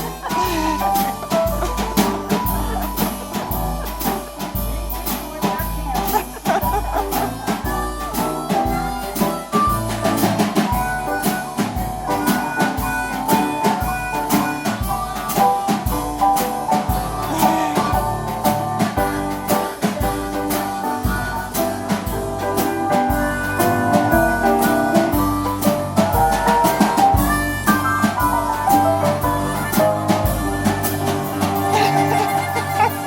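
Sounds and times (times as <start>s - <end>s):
band music: 0.0s - 33.0s
steady drum beat: 0.0s - 33.0s.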